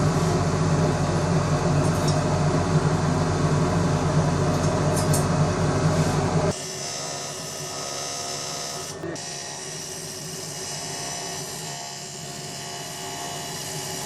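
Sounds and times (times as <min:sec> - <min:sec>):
workshop equipment humming: 0:00.0 - 0:14.0.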